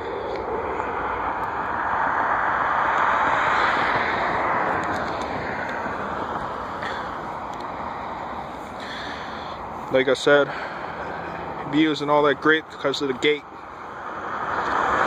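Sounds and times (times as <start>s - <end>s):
jet airliner passing roar: 0.0s - 9.8s, 10.4s - 15.0s.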